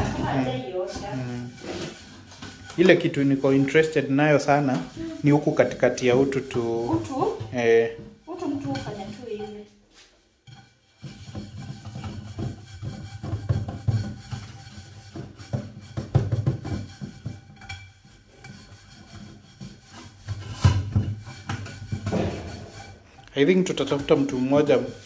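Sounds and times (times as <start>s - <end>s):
scourer scrubbing a metal pot: 0.0s - 25.0s.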